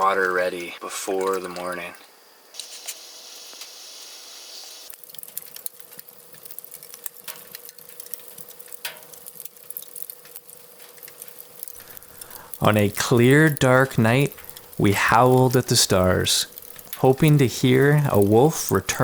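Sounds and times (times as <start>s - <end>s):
water hissing in a pot: 1.8s - 19.0s
stove crackling and ticking: 2.6s - 4.2s, 4.8s - 19.0s.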